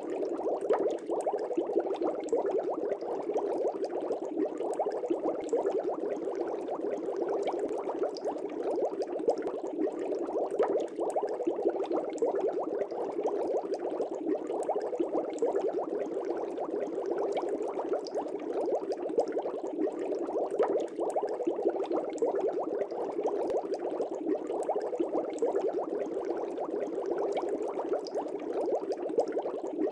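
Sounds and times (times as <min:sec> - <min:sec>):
air bubbles in fish tank: 0:00.0 - 0:29.9.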